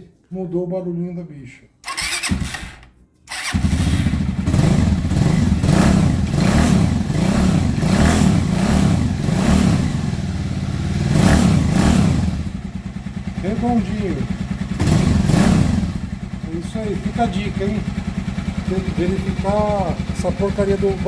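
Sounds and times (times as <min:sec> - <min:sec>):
motorcycle engine revving: 0:01.8 - 0:21.0.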